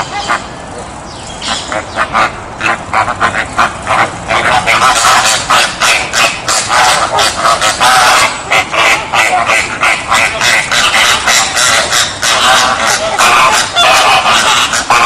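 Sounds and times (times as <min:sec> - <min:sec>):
flamingos calling: 0:00.0 - 0:15.0.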